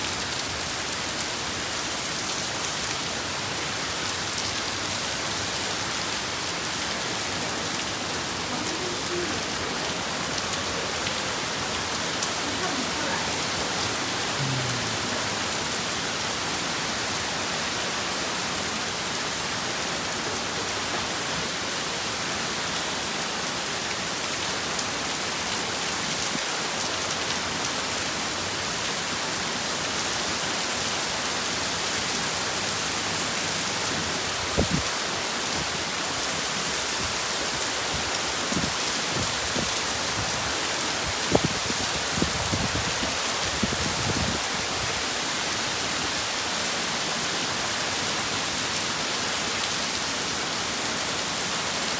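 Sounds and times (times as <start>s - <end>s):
heavy rain: 0.0s - 51.9s
wind: 0.0s - 51.9s.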